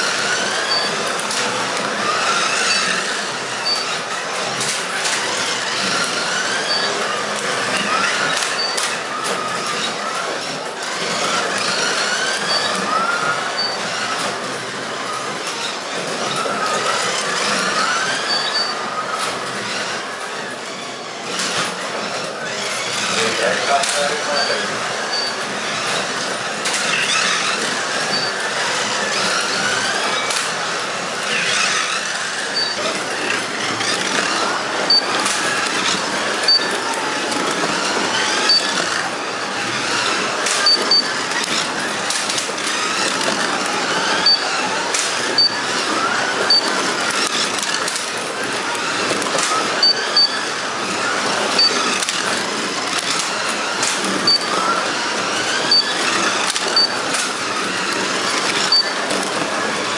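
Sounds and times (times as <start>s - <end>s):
slot car motors whining: 0.0s - 59.9s.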